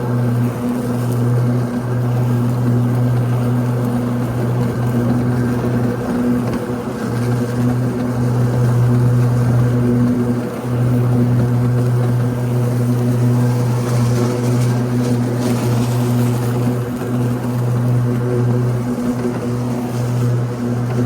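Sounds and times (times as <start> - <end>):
riding mower humming: 0.0 - 21.0.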